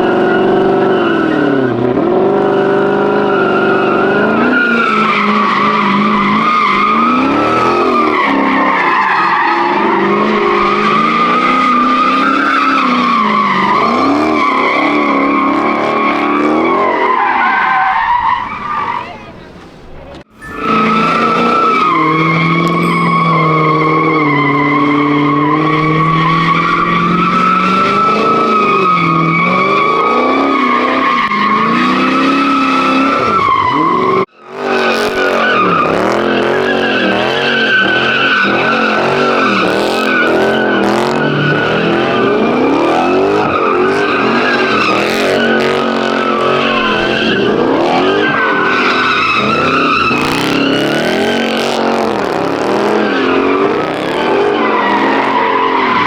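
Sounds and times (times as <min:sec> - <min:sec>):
car engine revving: 0:00.0 - 0:56.0
tires squealing: 0:00.0 - 0:56.0.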